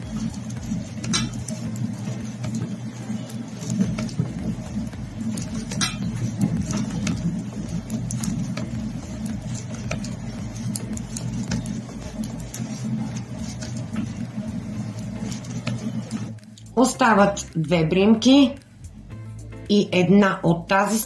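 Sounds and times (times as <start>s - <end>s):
metal knitting needles clicking: 0.0s - 18.7s
low steady hum: 0.0s - 21.0s.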